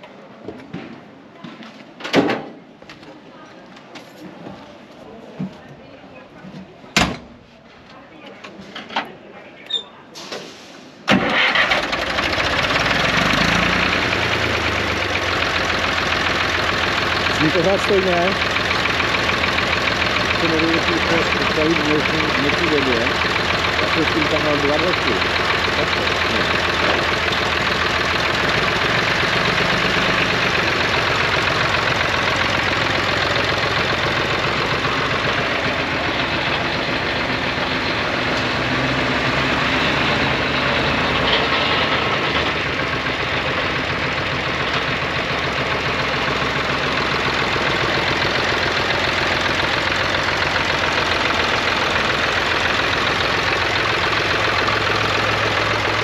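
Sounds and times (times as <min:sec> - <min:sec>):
tractor diesel engine idling: 0:11.1 - 0:56.0.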